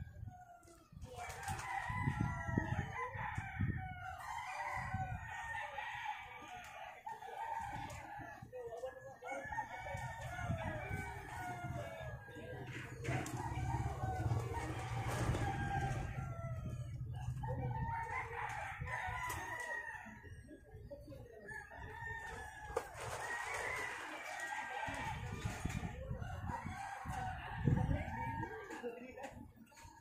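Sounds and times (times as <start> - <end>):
roosters crowing: 1.2 - 8.5, 9.3 - 20.4, 21.3 - 29.0.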